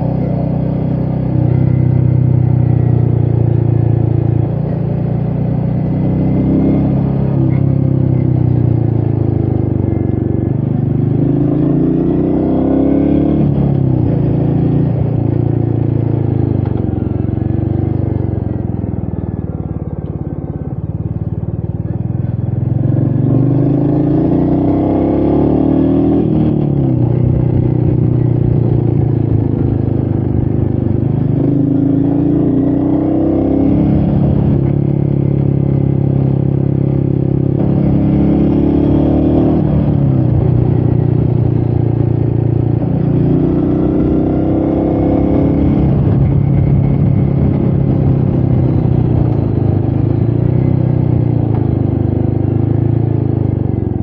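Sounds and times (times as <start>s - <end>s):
motorcycle engine revving under load: 0.0s - 54.0s.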